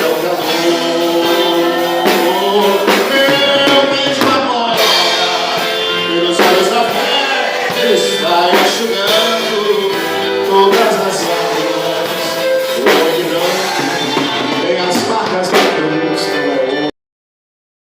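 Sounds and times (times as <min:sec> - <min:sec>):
gospel band playing: 0:00.0 - 0:16.9
person singing melody: 0:00.0 - 0:16.9
drum hits: 0:00.8 - 0:16.0.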